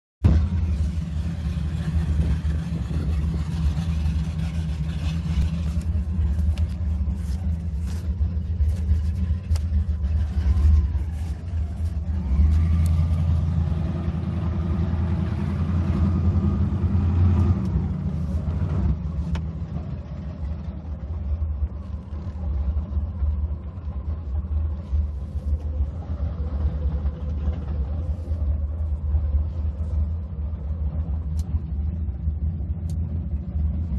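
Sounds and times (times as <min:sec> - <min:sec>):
powerboat engines rumbling: 0:00.2 - 0:33.9.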